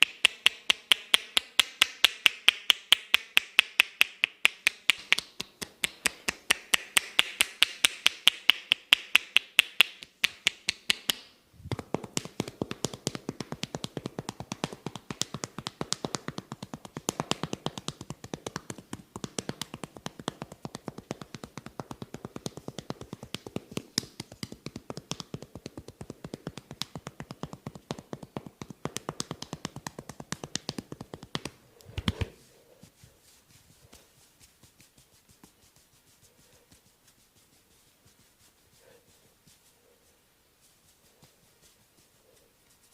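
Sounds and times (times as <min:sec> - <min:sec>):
hands tapping head massage: 0:00.0 - 0:39.8.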